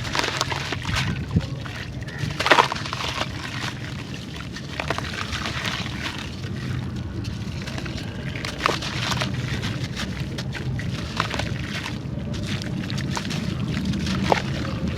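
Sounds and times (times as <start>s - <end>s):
clay crumbling into water: 0.0s - 14.9s
crisp snaps: 0.0s - 14.9s.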